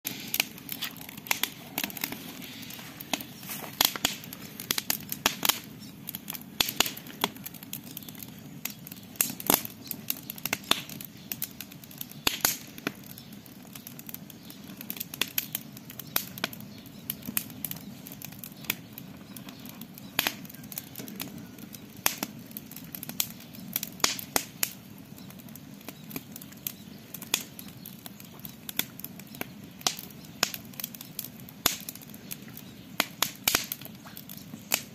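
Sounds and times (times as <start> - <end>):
campfire crackling and popping: 0.1 - 34.9.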